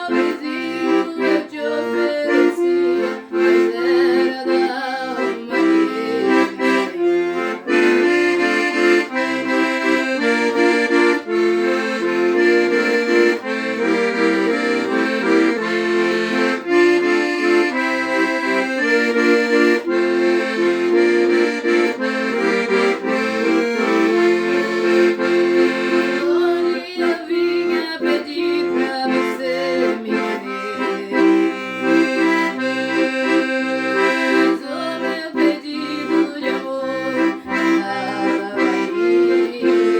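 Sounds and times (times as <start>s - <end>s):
solo instrumental melody with chords: 0.0s - 39.9s.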